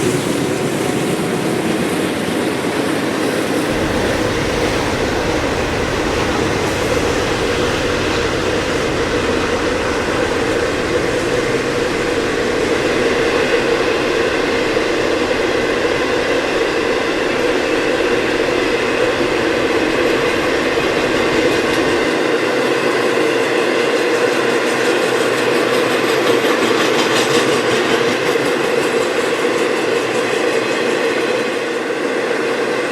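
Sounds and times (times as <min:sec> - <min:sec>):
train wheels rolling on rail: 0:00.0 - 0:32.9.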